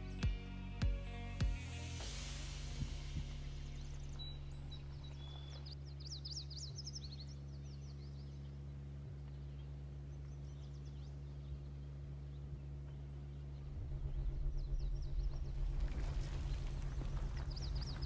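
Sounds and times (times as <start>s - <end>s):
low hum of held tones: 0.0s - 18.0s
birds chirping in high trills: 3.4s - 18.0s.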